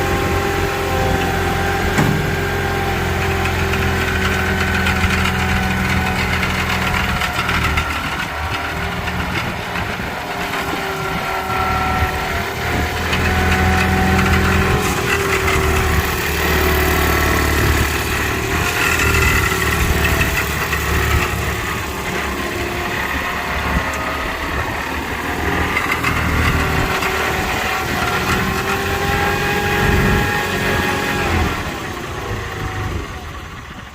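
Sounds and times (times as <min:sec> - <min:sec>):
skid steer engine running: 0:00.0 - 0:33.9.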